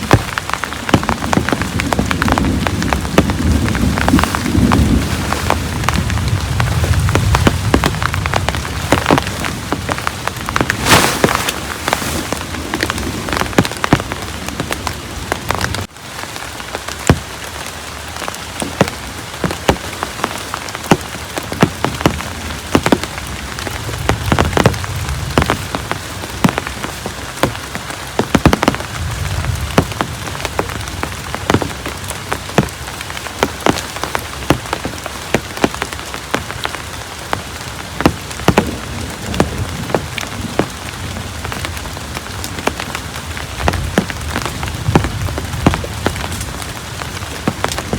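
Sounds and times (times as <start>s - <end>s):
heavy rain falling: 0.0s - 47.9s
raindrops hitting a surface: 0.0s - 47.9s.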